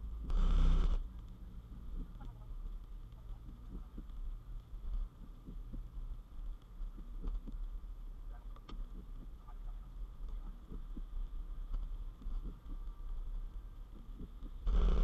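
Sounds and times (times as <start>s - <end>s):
faint ticks: 0.0s - 15.0s.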